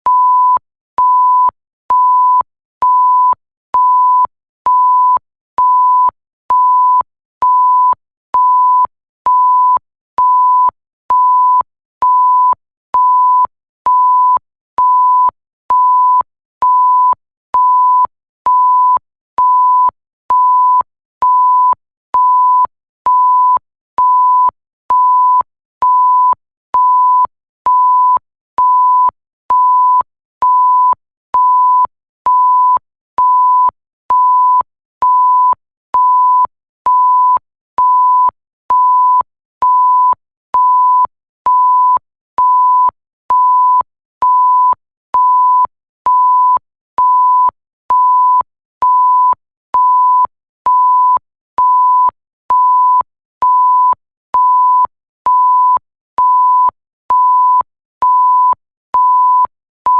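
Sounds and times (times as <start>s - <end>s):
censor bleep tone: 0.0s - 59.9s.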